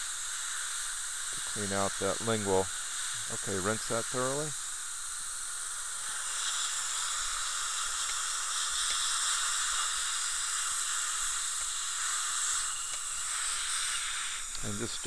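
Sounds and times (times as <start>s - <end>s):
dental suction: 0.0s - 15.0s
dental syringe spraying: 0.0s - 15.0s.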